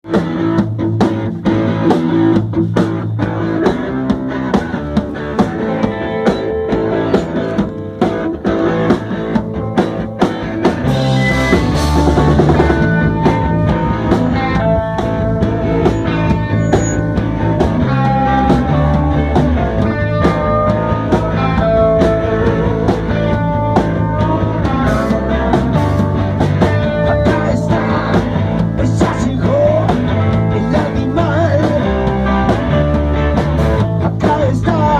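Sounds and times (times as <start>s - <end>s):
drum kit beat: 0.0s - 34.9s
rock music: 0.0s - 34.9s.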